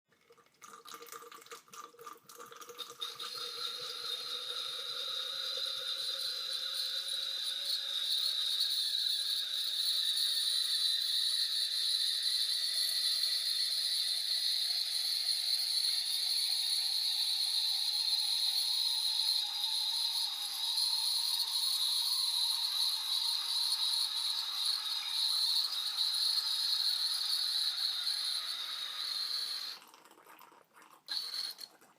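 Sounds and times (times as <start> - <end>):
wine pouring through aerator: 0.2 - 31.9.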